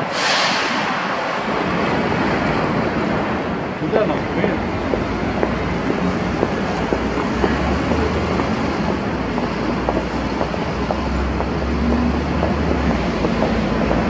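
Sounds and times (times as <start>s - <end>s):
buses and cars passing: 0.0s - 14.0s.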